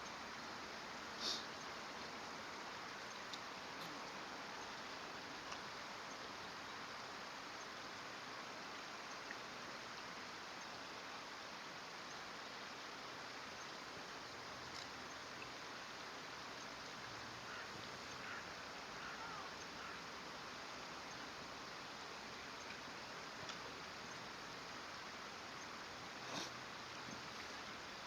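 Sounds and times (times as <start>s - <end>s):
flowing stream water: 0.0s - 28.0s.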